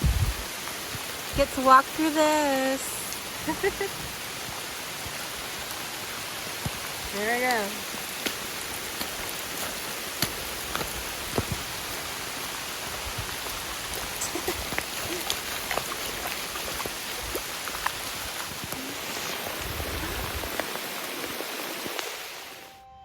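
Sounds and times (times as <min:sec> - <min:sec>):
raindrops tapping close by: 0:00.0 - 0:22.5
heavy rain hiss: 0:00.0 - 0:22.7.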